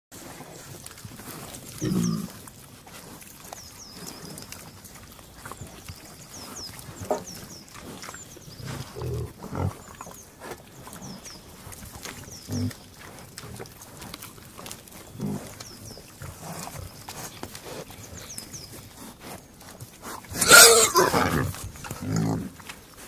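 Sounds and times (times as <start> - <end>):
pigs snuffling: 0.1 - 23.0
pigs grunting: 0.2 - 23.0.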